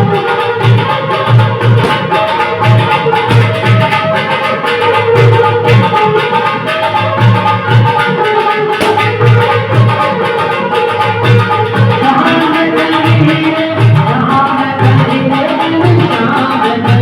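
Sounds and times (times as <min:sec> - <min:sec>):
instrumental music with drum beat: 0:00.0 - 0:17.0.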